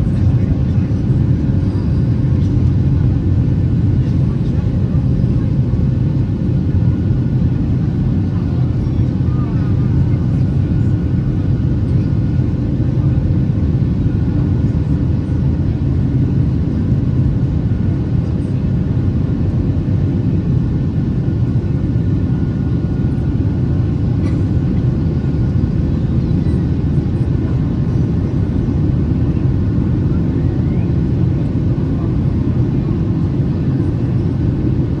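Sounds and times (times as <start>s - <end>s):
airplane engines rumbling in cabin: 0.0s - 35.0s.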